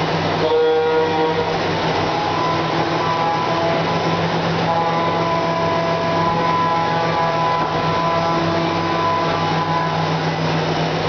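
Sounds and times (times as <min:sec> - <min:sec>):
machine hum: 0:00.0 - 0:11.0
faint machine whines: 0:00.6 - 0:10.2.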